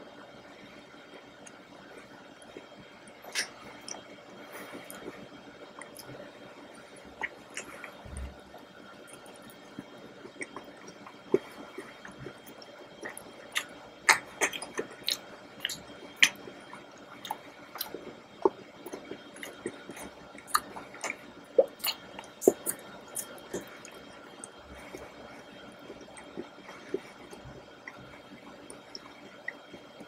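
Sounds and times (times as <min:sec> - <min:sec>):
person chewing chocolate: 0:02.4 - 0:05.2, 0:05.8 - 0:29.8.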